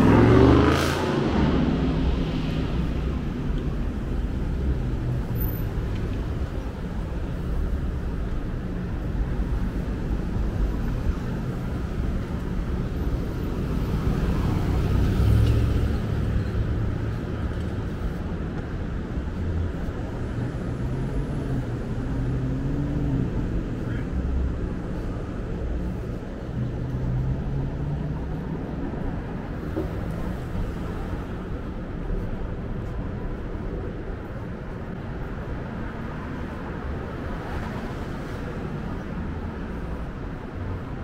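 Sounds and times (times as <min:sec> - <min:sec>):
vehicle engines rumbling: 0:00.0 - 0:41.0.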